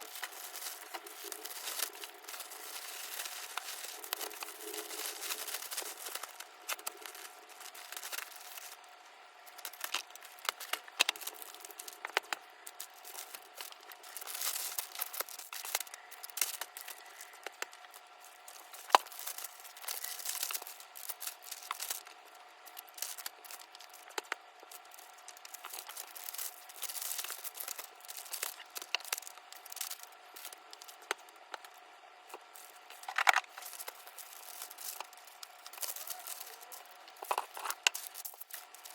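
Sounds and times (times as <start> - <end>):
plastic and paper wrapping rustling: 0.0 - 38.9.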